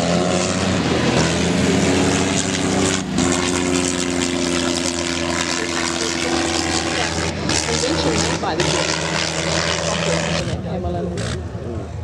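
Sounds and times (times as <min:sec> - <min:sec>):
propeller aircraft engine droning: 0:00.0 - 0:12.0.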